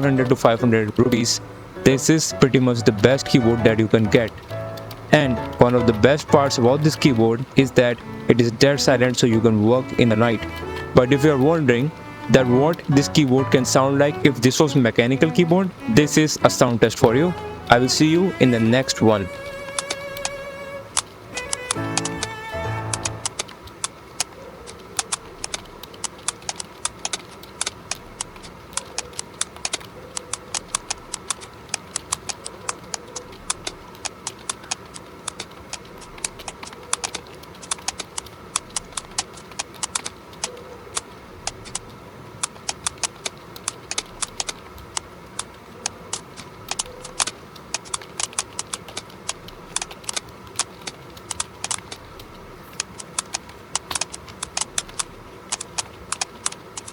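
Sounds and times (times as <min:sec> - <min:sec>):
mechanical keyboard typing: 0:00.0 - 0:56.9.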